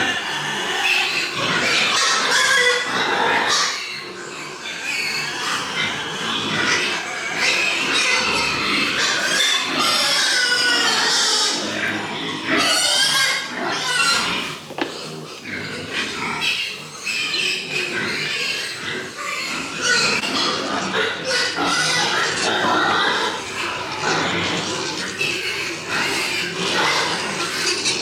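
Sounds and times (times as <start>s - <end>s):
pigs squealing: 0.0s - 28.0s.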